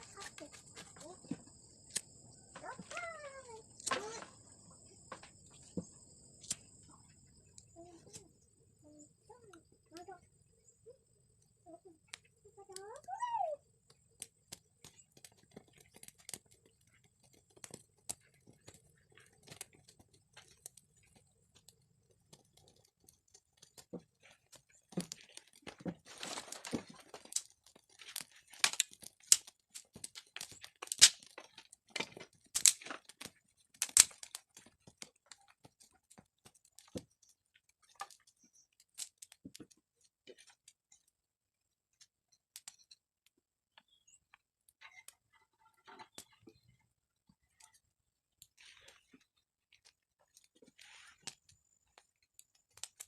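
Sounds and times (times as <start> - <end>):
crinkling and rustling: 0.0 - 8.3, 13.8 - 53.0.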